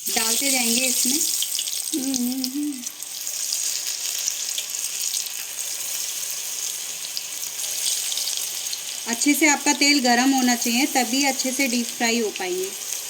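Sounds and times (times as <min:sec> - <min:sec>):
batter deep-frying in hot oil: 0:00.0 - 0:13.0.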